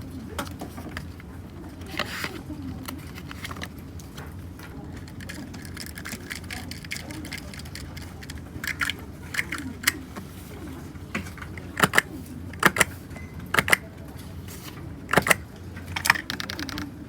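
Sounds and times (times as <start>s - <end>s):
mechanical keyboard typing: 0.5s - 10.2s, 11.4s - 14.0s, 15.1s - 17.0s.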